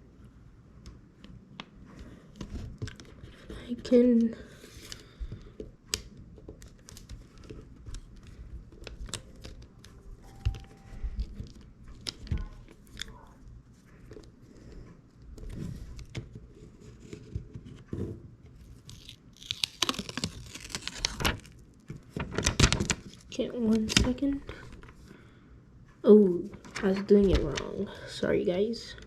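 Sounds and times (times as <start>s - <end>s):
crinkling and rustling: 1.9s - 25.1s, 26.5s - 27.9s.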